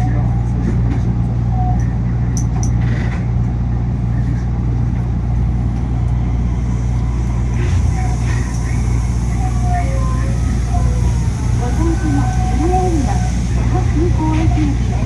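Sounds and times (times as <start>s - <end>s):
monorail car running hum: 0.0s - 15.0s.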